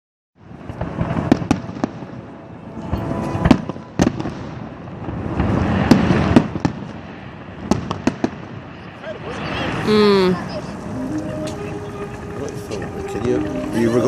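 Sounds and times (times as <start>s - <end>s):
firework bangs: 0.4s - 13.8s
firework crackle: 0.4s - 14.0s.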